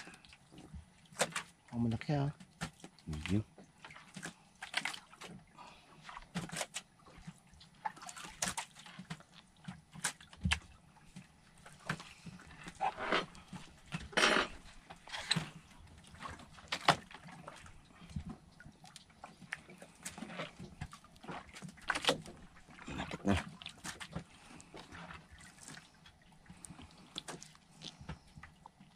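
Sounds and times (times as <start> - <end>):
water splashes: 0.0 - 28.9.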